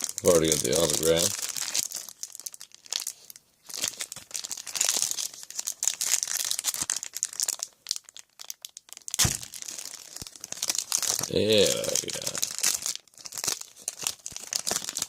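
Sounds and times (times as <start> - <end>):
wrapper crinkling and tearing: 0.0 - 15.0.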